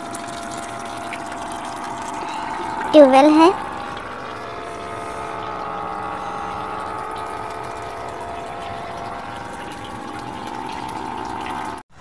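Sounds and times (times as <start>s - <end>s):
water rushing through pipe: 0.0s - 11.8s
pump humming: 0.0s - 12.0s.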